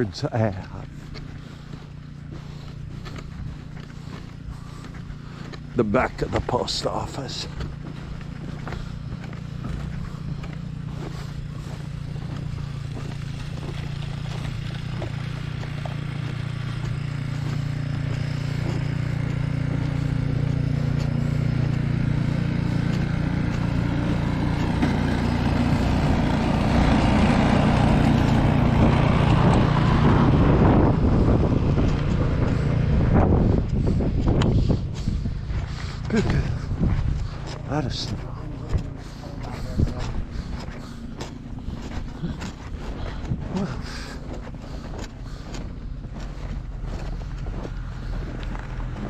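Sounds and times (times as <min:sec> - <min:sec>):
car engine hum: 0:00.0 - 0:49.0
road noise inside car: 0:00.0 - 0:49.0.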